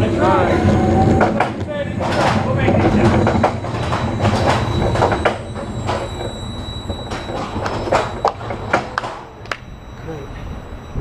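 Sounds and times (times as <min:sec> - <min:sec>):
roller coaster rattling on steel track: 0:00.0 - 0:11.0.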